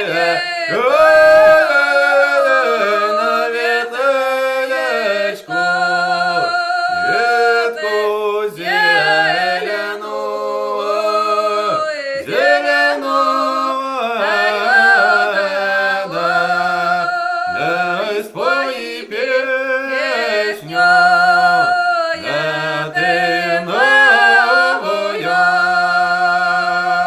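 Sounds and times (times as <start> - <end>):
woman and man singing folk song: 0.0 - 27.0.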